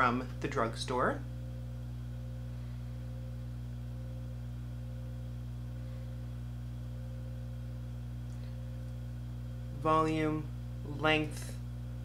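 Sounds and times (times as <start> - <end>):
low electrical mains hum: 0.0 - 12.0.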